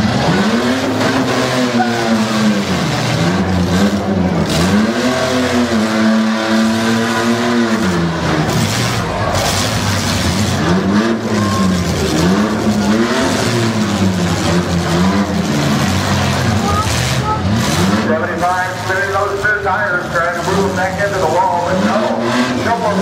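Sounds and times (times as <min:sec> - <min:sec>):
car engines revving hard: 0:00.0 - 0:23.0.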